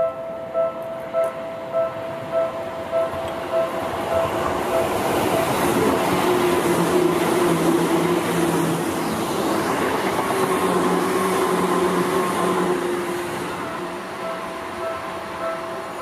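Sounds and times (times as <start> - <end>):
electric train passing on rails: 0.0 - 16.0
high whine: 0.0 - 16.0.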